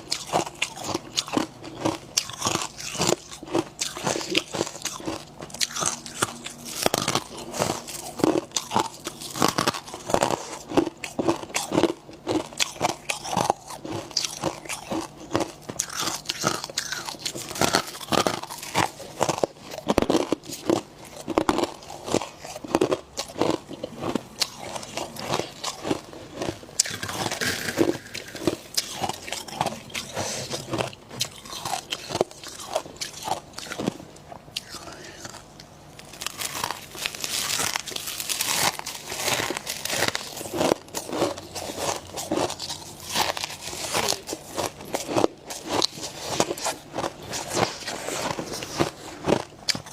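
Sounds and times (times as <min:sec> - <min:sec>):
chewing ice crunches: 0:00.0 - 0:49.9.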